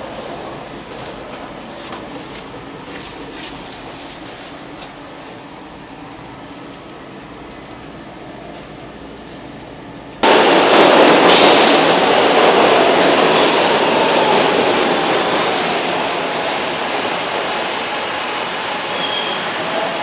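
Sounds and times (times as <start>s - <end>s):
loud rumble of subway trains: 0.0s - 20.0s
subway train rumbling: 0.0s - 20.0s.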